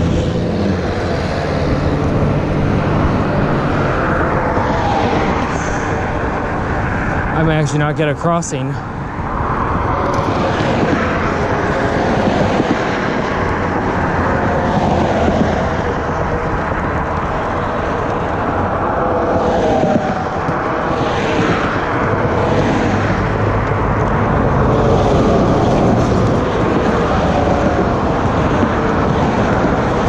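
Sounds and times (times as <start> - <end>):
road traffic: 0.0 - 30.0
vehicles passing: 0.0 - 30.0.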